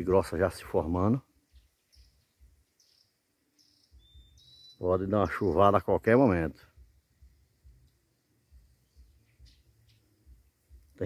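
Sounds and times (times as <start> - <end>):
faint low rumbles: 0.0 - 11.0.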